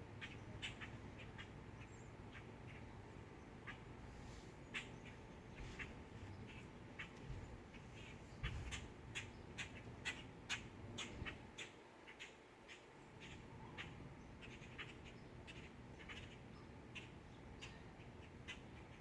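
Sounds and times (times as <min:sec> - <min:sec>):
birds calling sharply: 0:00.1 - 0:19.0.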